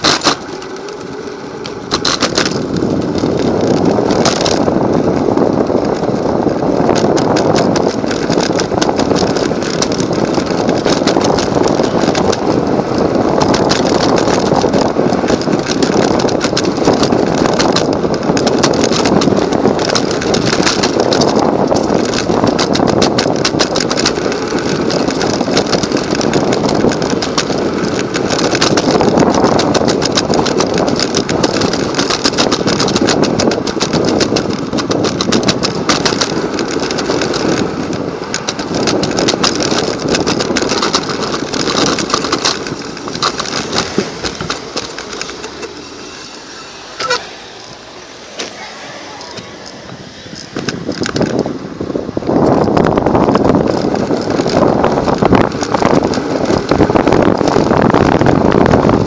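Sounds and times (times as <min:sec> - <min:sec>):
scooter rattling: 0:00.0 - 0:59.0
scooter wheels rumbling on pavement: 0:00.0 - 0:59.0.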